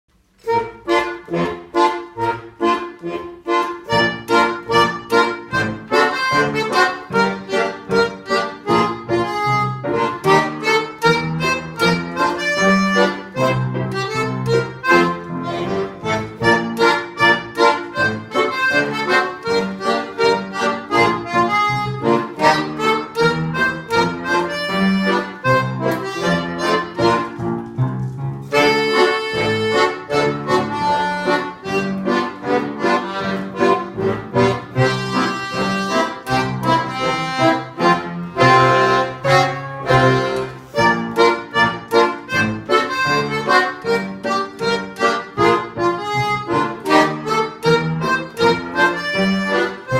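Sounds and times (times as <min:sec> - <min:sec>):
accordion music: 0:00.1 - 0:49.9.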